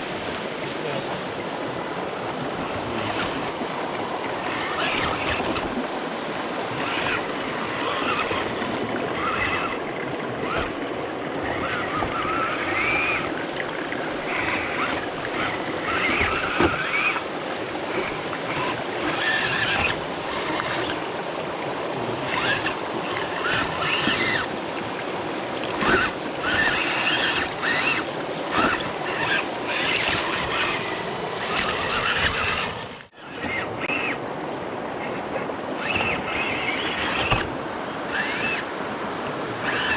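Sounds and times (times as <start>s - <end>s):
stream water rushing and splashing: 0.0s - 39.9s.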